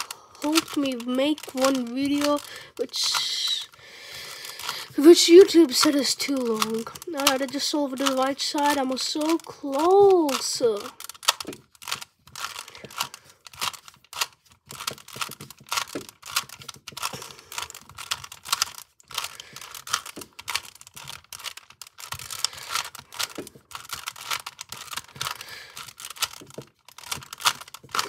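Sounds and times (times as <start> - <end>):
puzzle cube layers clicking: 0.0 - 28.0.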